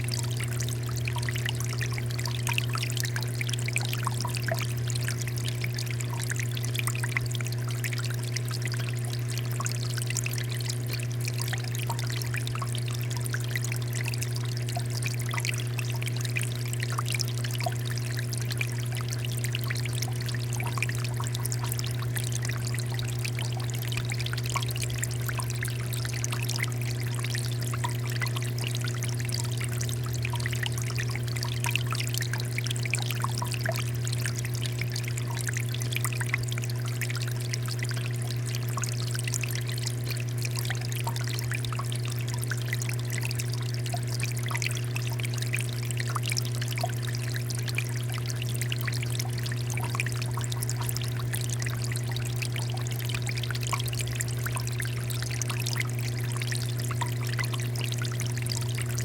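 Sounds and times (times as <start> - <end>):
steady low hum: 0.0 - 59.0
water fountain flowing: 0.0 - 59.0.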